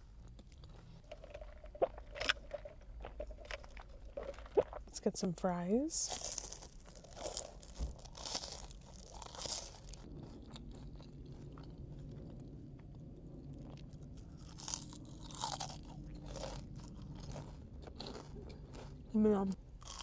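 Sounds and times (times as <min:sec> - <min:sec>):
crunching and chewing of fries: 0:00.0 - 0:05.0, 0:05.9 - 0:20.0.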